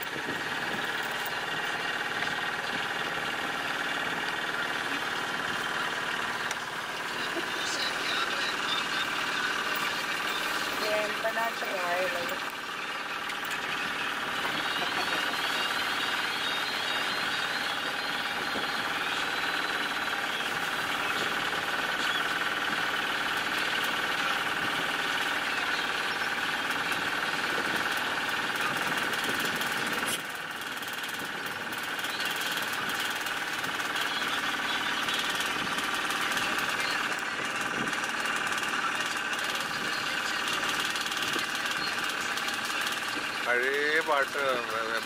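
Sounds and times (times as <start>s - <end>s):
motorboat engine running: 0.0s - 45.0s.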